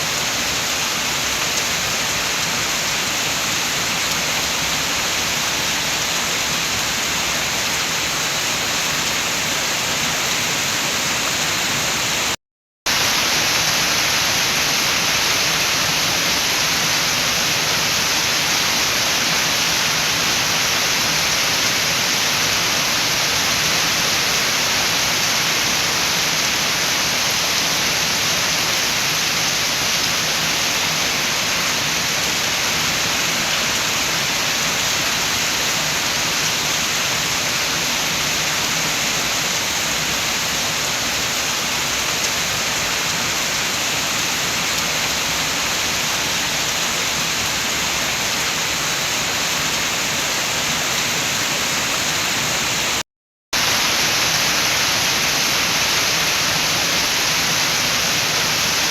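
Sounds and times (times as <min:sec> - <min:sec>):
rain with wind: 0:00.0 - 0:58.9.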